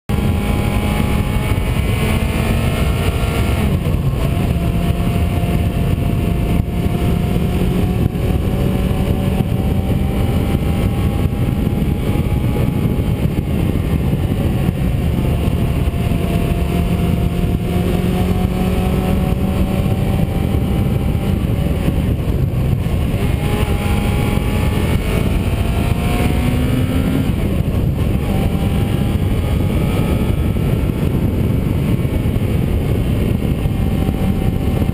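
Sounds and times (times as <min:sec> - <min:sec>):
road and wind rumble: 0:00.1 - 0:34.9
vehicle engine accelerating: 0:00.1 - 0:34.9.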